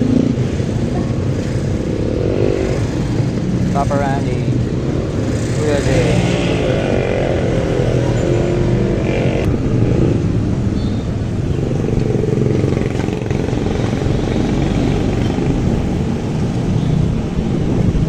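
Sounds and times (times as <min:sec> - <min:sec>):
vehicle engines in traffic: 0:00.0 - 0:18.0.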